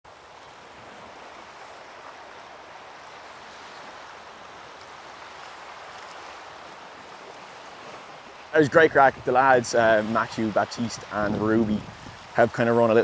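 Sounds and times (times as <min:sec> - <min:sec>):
ocean surf washing: 0:00.1 - 0:13.0.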